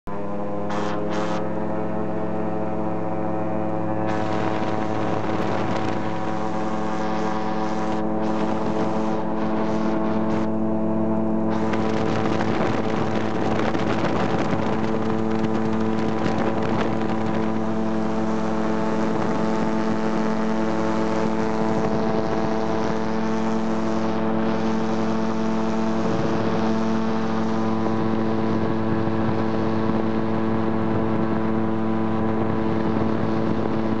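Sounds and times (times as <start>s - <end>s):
aircraft engine and propeller: 0.1s - 34.0s
wind rush: 0.7s - 34.0s.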